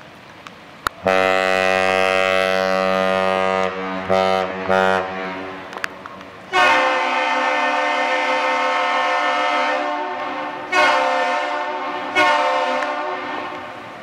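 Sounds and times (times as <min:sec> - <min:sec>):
ship horn blasts: 0:01.0 - 0:14.0.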